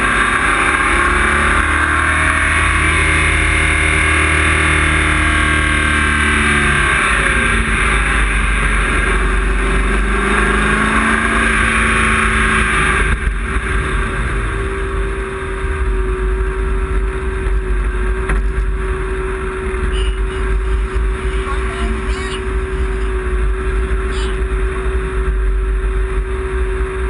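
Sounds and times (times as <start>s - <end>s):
race car engine revving: 0.0s - 27.0s
road noise: 0.0s - 27.0s.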